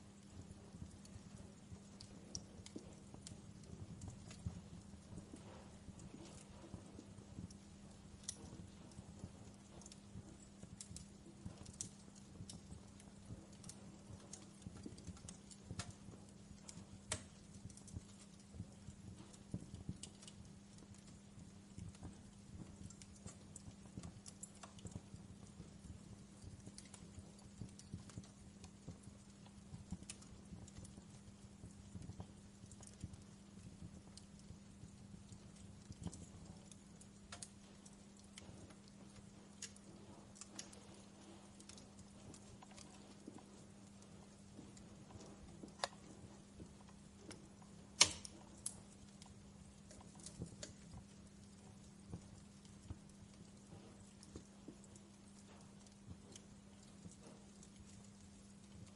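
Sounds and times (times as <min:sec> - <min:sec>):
faint steady background noise: 0:00.0 - 0:58.9
steady low hum: 0:00.0 - 0:58.9
wood fire crackling: 0:00.0 - 0:58.9.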